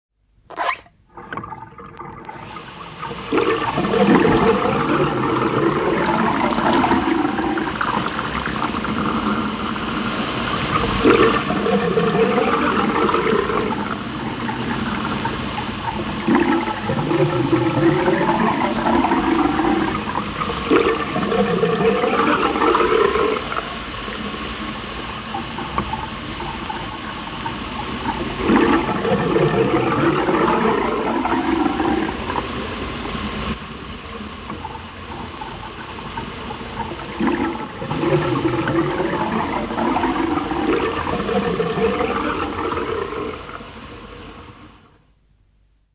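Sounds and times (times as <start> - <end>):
fizzing hiss with bubbling: 0.6 - 45.1.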